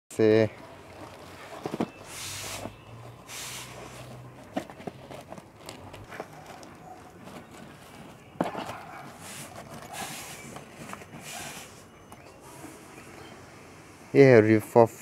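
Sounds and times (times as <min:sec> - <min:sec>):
plastic crinkling and rustling: 0:00.2 - 0:12.8.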